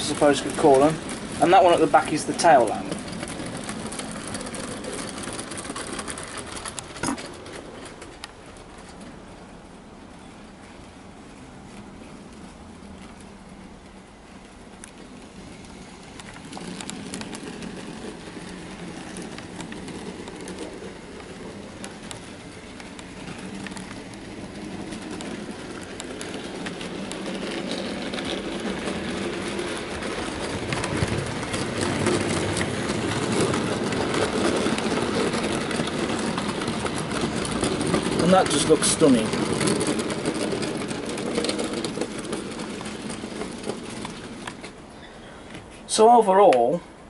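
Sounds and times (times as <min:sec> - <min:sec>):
model train motor hum: 0:00.0 - 0:09.1, 0:13.9 - 0:45.1
wheels clicking over rail joints: 0:00.0 - 0:47.0.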